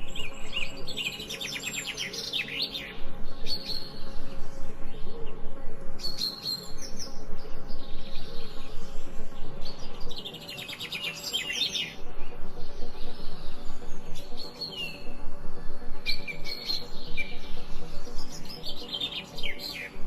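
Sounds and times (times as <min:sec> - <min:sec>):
low background noise: 0:00.0 - 0:20.0
songbirds chirping and singing: 0:00.0 - 0:20.0.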